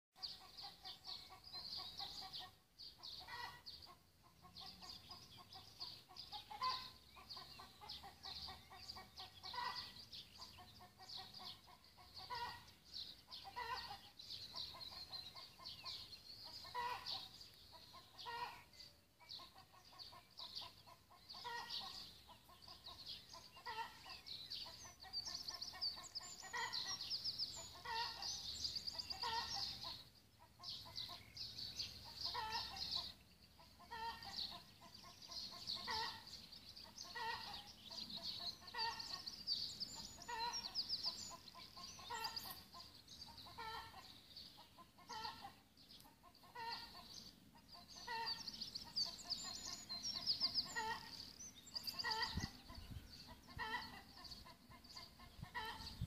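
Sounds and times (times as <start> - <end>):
high twittering birdsong: 0.2 - 56.0.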